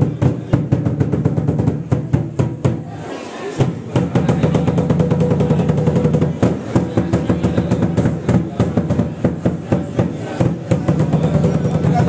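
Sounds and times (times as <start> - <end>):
crowd voices: 0.0 - 12.0
rapid metallic strikes: 0.0 - 12.0.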